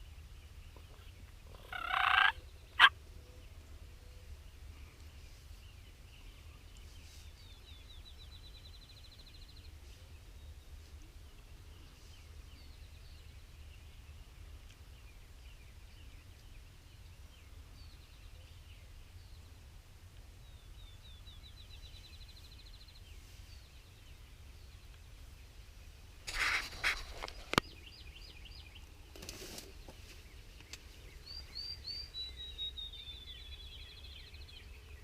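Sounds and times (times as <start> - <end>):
faint songbirds singing: 0.0 - 35.0
low rumble of wind: 0.0 - 35.0.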